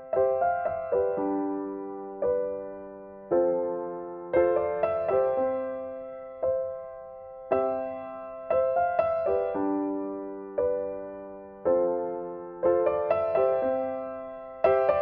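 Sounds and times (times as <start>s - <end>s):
soft solo piano chords: 0.0s - 15.0s.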